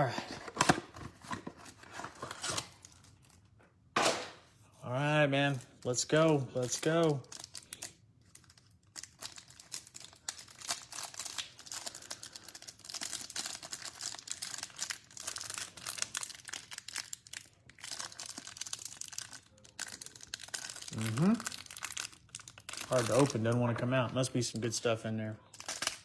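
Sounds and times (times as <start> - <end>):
plastic wrapper crinkling: 0.4 - 3.6, 5.4 - 24.3, 25.4 - 26.0.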